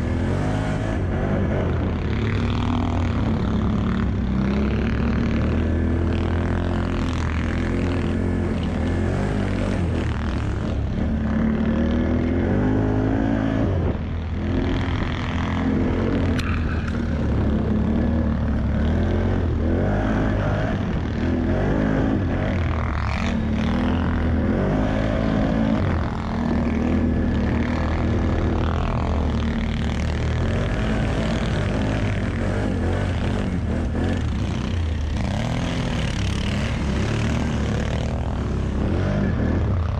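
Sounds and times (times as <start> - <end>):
atv engine running under load: 0.0 - 39.9.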